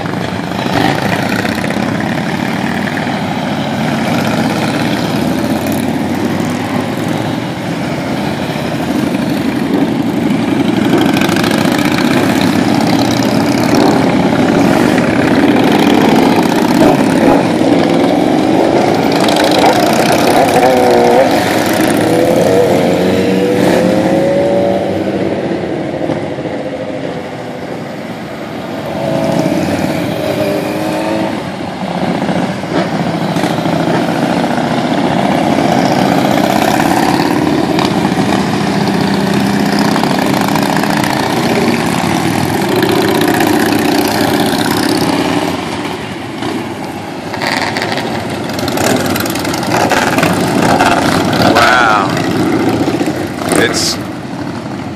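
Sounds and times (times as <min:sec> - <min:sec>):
motorcycles passing: 0:00.0 - 0:54.9.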